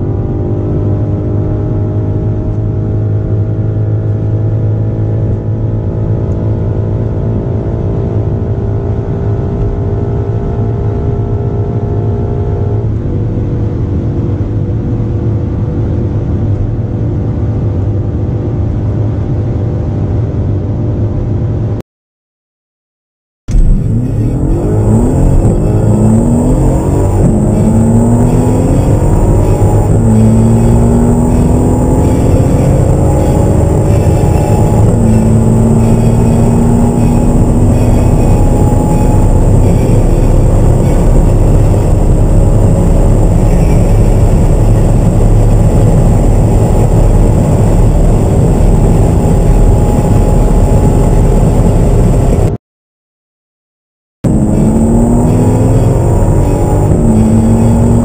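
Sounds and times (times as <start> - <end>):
car engines accelerating hard: 0.0 - 21.8, 23.5 - 52.6, 54.3 - 58.0.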